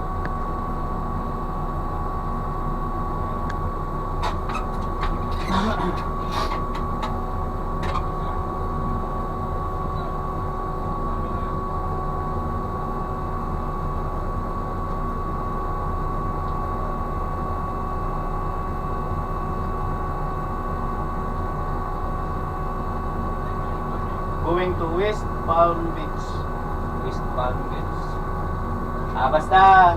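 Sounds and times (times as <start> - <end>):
ship machinery humming: 2.4 - 16.1, 16.7 - 29.9.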